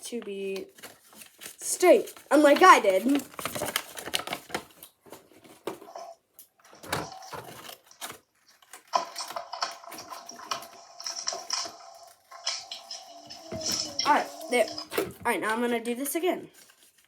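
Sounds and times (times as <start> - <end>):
paper crinkling and rustling: 0.0 - 17.0.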